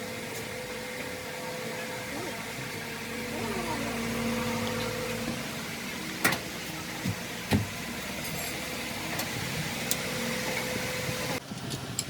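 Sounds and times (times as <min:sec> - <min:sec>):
car engine running: 0:00.0 - 0:11.4.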